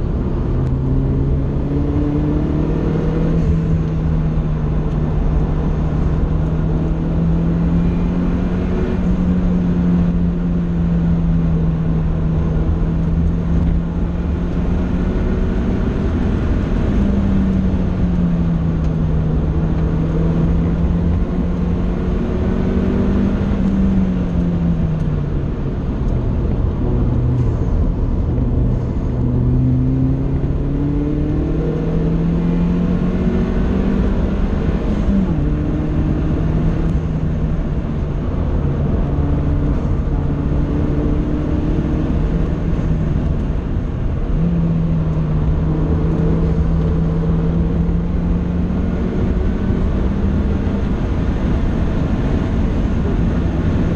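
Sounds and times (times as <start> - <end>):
car engine accelerating: 0.0 - 53.9
road and wind rumble: 0.0 - 53.9.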